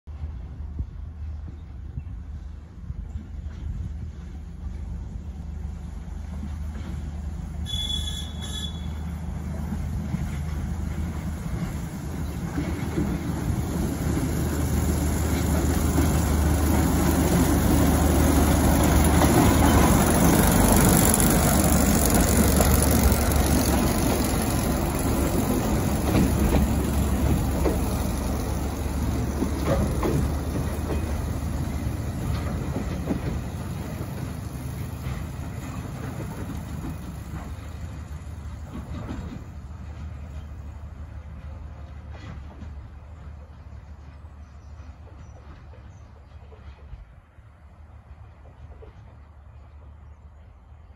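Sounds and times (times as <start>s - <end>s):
diesel locomotive engine hum: 0.0s - 50.9s.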